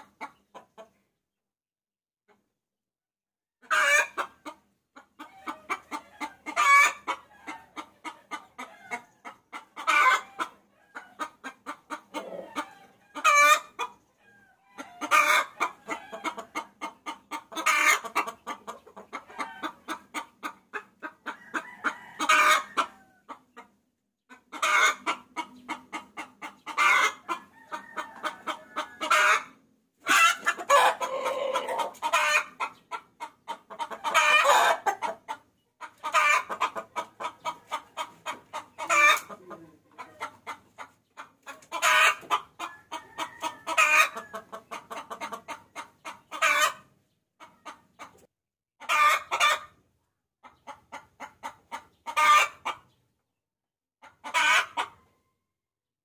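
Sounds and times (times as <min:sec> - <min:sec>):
hen clucking: 0:00.0 - 0:01.1, 0:03.6 - 0:53.1, 0:54.0 - 0:55.2.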